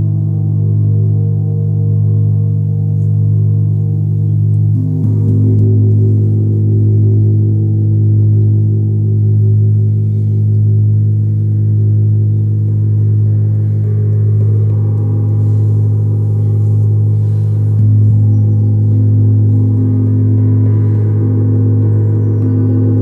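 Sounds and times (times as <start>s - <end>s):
deep gong hum: 0.0s - 23.0s
gong stroke: 0.0s - 23.0s.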